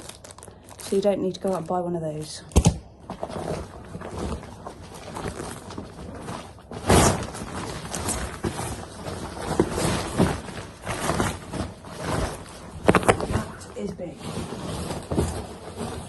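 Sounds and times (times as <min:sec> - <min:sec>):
inflatable mat rustling: 0:03.0 - 0:16.0.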